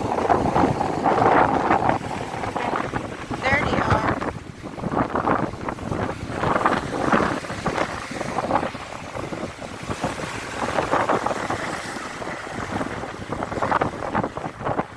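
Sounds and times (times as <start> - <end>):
water rushing along boat hull: 0.0 - 14.9
wind buffeting microphone: 0.0 - 14.9.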